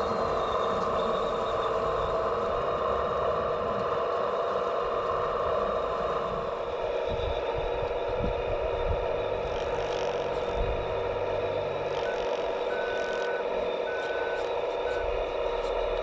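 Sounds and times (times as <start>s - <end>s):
electric motor and pump whine: 0.0s - 16.0s.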